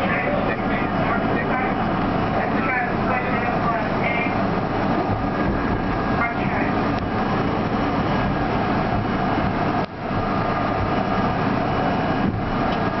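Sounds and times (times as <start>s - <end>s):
subway wheels rumbling on rail: 0.0s - 13.0s.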